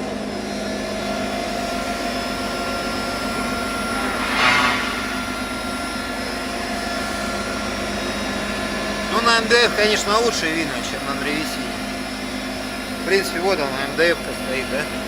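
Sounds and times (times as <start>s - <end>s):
saw machine hum and whine: 0.0s - 15.0s.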